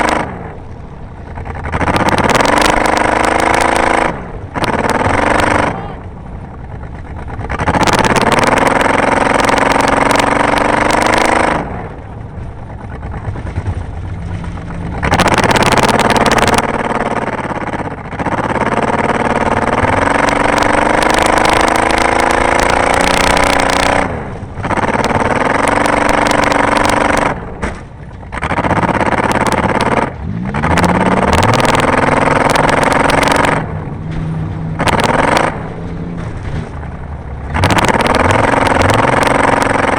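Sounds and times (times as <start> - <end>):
race car engine accelerating: 1.2 - 27.5, 28.3 - 39.9.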